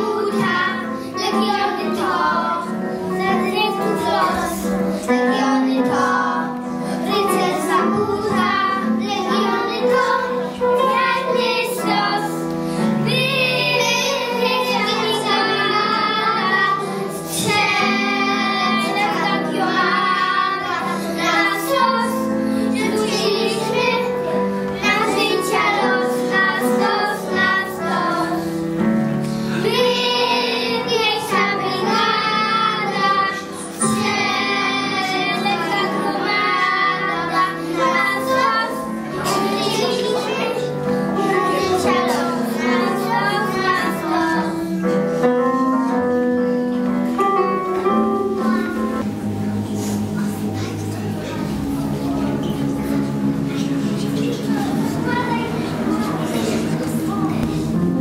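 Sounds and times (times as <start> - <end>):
children singing: 0.0 - 46.1, 47.4 - 58.0
musical accompaniment: 0.0 - 58.0.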